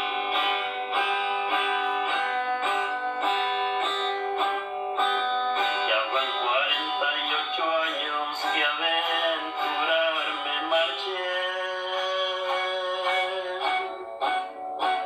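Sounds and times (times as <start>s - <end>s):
person singing: 0.0s - 15.0s
plucked guitar notes: 0.0s - 15.0s.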